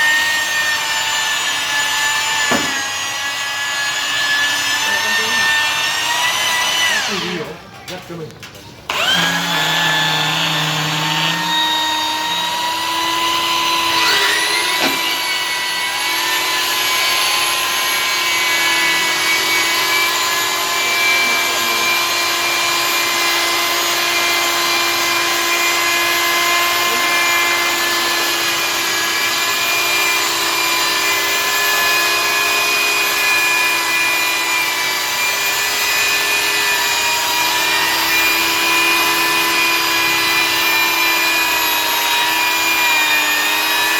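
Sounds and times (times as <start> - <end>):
polishing machine motor whine: 0.0 - 7.6, 8.9 - 43.9.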